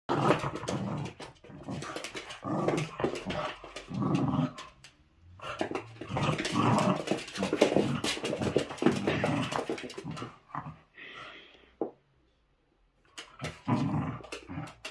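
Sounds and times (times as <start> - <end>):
dogs play-growling: 0.1 - 11.0, 13.1 - 14.9.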